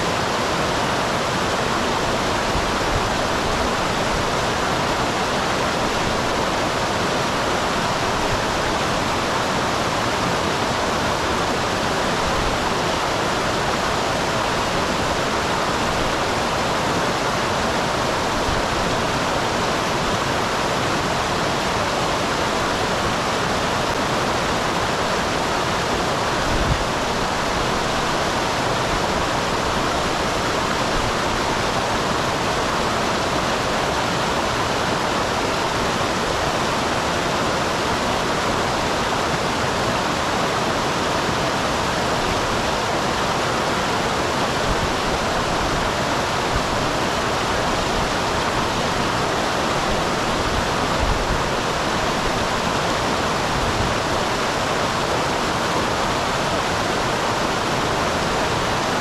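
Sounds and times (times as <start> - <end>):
waterfall rushing water: 0.0 - 59.0.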